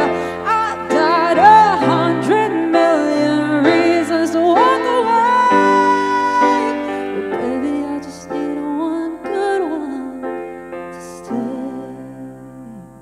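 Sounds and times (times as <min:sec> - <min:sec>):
grand piano chords: 0:00.0 - 0:13.0
woman singing: 0:00.0 - 0:13.0.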